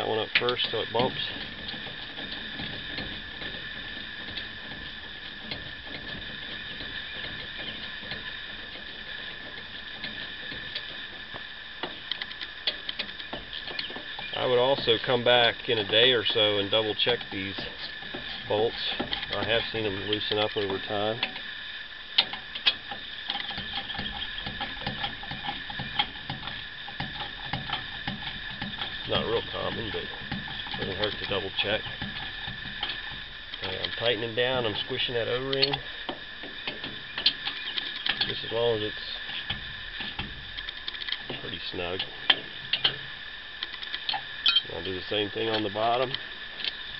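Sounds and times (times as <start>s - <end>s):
steady high hiss: 0.0s - 46.9s.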